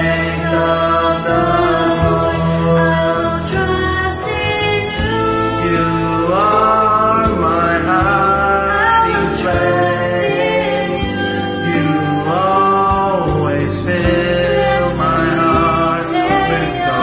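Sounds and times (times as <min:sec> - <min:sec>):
instrumental backing music: 0:00.0 - 0:17.0
man and woman singing a duet: 0:00.0 - 0:17.0.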